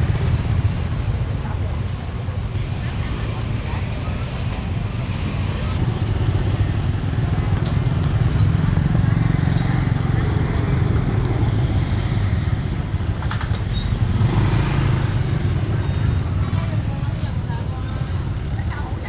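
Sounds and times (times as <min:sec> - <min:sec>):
motorbike engine rumbling: 0:00.0 - 0:19.0.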